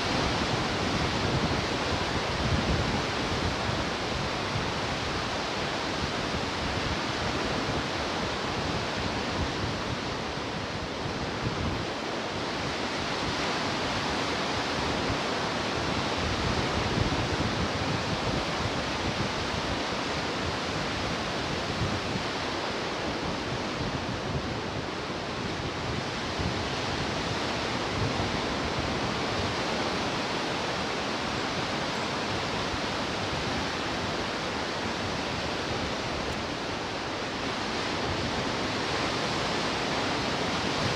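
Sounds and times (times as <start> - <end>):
ocean surf washing ashore: 0.0 - 40.9.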